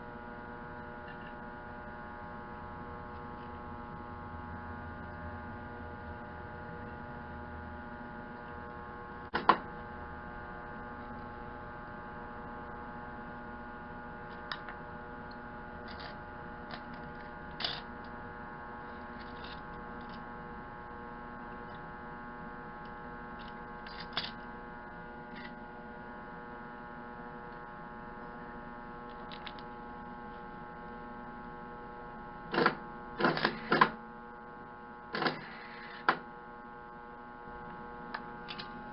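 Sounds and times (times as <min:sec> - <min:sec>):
welder electrical hum: 0:00.0 - 0:38.9.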